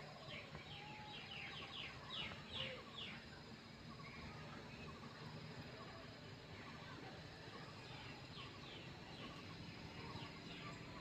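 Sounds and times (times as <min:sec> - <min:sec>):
faint repeated bird notes: 0:00.0 - 0:11.0.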